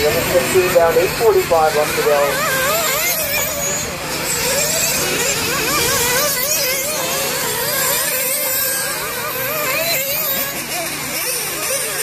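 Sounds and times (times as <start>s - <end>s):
rc buggy engines screaming: 0.0s - 12.0s.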